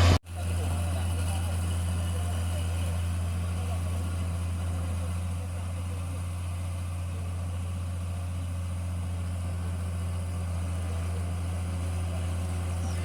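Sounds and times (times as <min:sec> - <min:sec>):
harvesting machine engine drone: 0:00.0 - 0:13.0.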